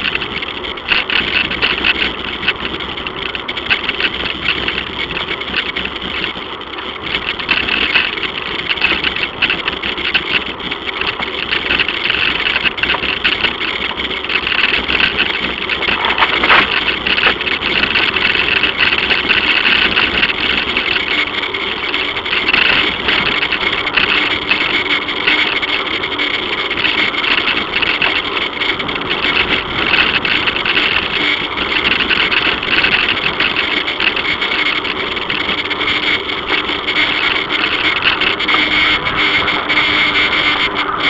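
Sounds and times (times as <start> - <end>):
bicycle rolling over concrete: 0.0 - 41.0.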